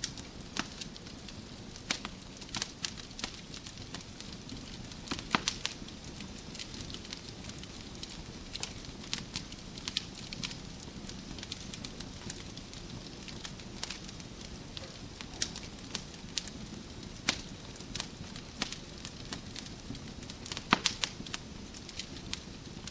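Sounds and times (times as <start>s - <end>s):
logs crackling and popping: 0.0s - 22.9s.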